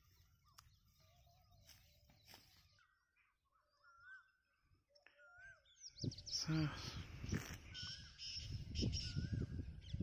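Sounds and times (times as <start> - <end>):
faint bird chirps and whistles: 0.0 - 10.0.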